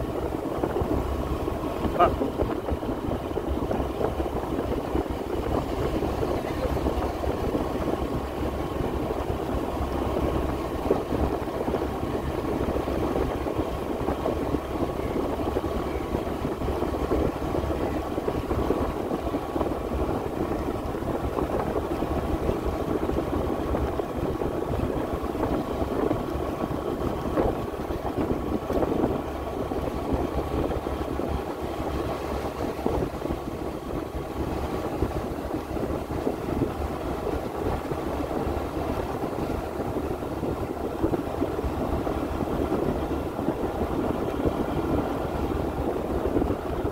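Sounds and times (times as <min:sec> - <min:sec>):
road and wind noise: 0:00.0 - 0:46.9
vehicle engine cruising: 0:00.0 - 0:46.9.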